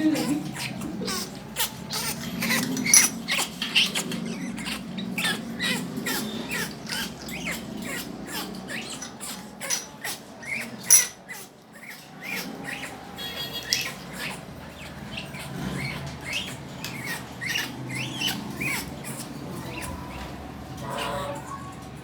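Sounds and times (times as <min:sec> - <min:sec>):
parrot whistling: 0:00.0 - 0:21.4
parrot clicking and squeaking: 0:00.0 - 0:22.0.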